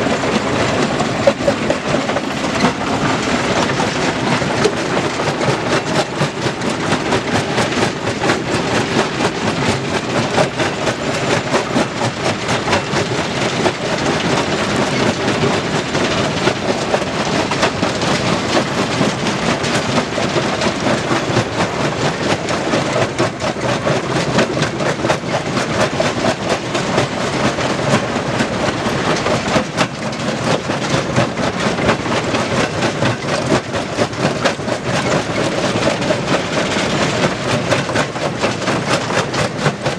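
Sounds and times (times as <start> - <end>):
stone-crushing machinery clattering: 0.0 - 39.9.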